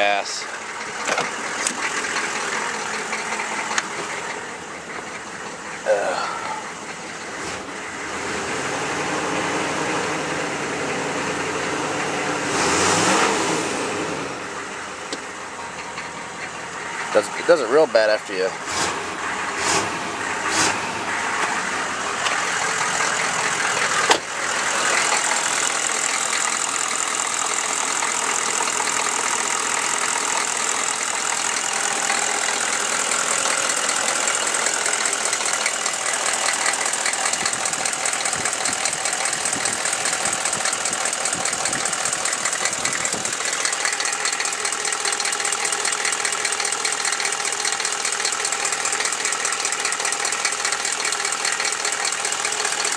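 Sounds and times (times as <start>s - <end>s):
diesel engine idling with knocking: 0.0s - 12.4s, 14.5s - 52.9s.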